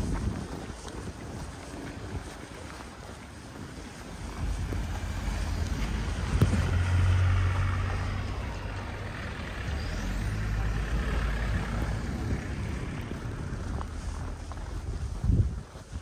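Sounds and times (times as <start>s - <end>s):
heavy vehicle engine rumble: 0.0s - 16.0s.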